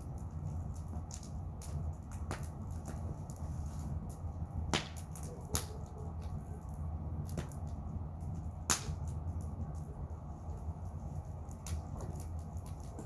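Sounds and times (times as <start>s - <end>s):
bonfire crackling and popping: 0.0s - 13.0s
low steady rumble: 0.0s - 13.0s.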